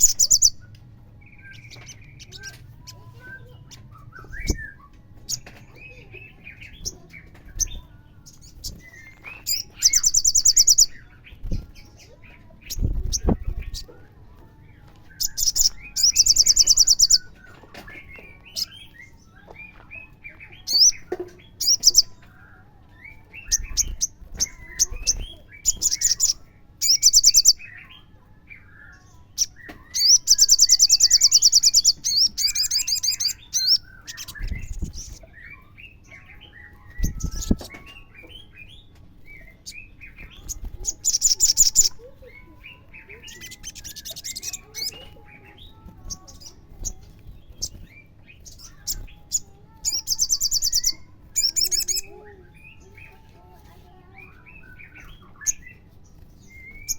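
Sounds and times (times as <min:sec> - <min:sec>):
bird twittering chirps: 0:00.0 - 0:14.1, 0:14.8 - 0:56.9.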